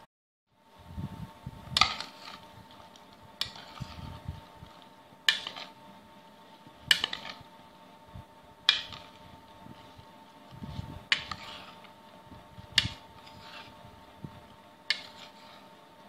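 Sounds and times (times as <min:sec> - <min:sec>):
spoon stirring in a bowl: 0:01.8 - 0:07.5, 0:08.6 - 0:16.0.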